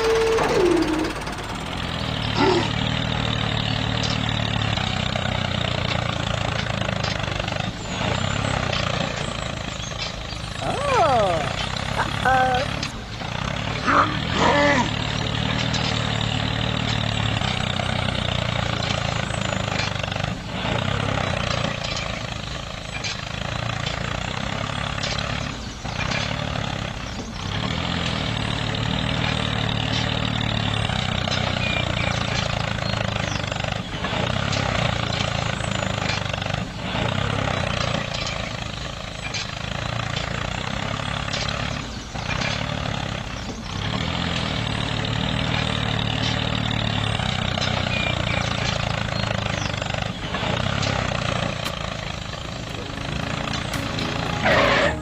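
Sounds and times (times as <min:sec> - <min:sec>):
small tractor motor running: 0:00.0 - 0:55.0.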